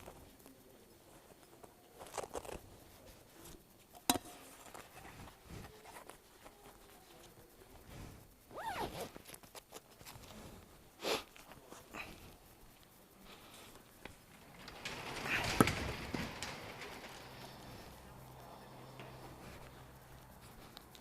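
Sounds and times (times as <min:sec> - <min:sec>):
handling rustles and rasps: 0:00.0 - 0:21.0.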